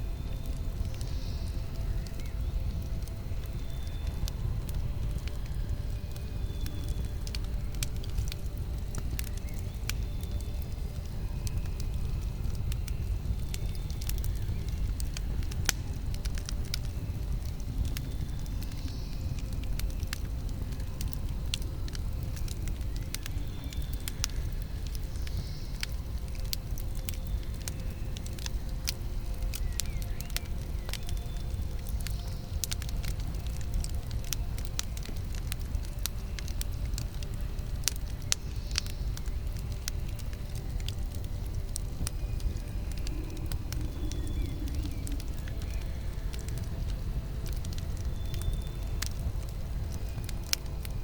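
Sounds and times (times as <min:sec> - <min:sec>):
low rumble of flames: 0:00.0 - 0:51.0
wood crackling and popping: 0:00.0 - 0:51.0.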